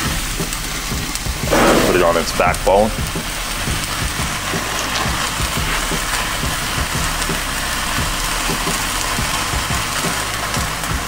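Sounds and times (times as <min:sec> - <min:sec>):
fat sizzling and crackling: 0:00.0 - 0:11.0
rush of grill flames: 0:00.0 - 0:11.0.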